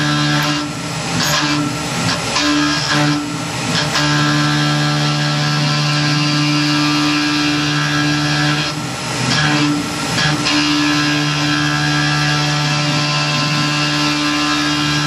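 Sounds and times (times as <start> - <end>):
milling cutter whining through metal: 0.0 - 15.0.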